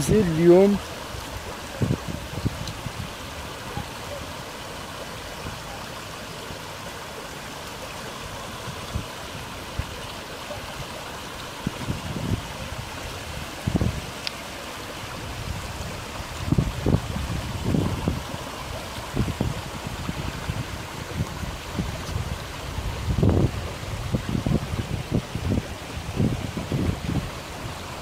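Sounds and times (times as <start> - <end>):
floodwater flowing: 0.0 - 28.0.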